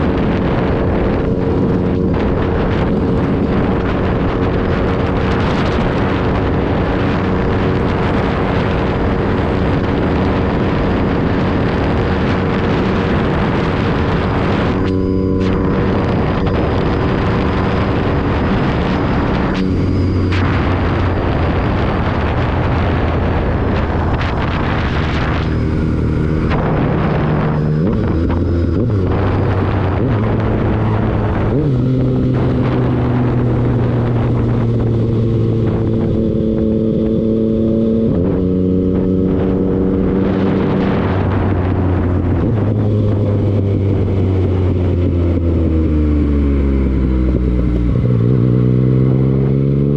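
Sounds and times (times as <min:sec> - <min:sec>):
rushing noise: 0:00.0 - 0:48.8
vehicle engine running: 0:00.0 - 0:49.9.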